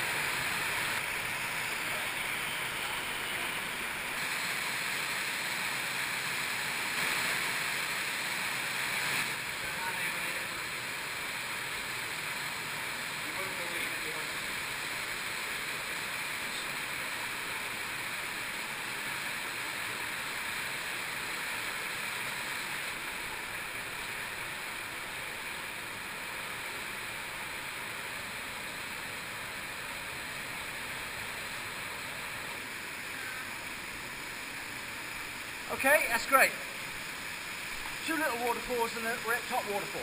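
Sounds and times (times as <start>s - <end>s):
cave stream rushing over rock: 0.0s - 40.0s.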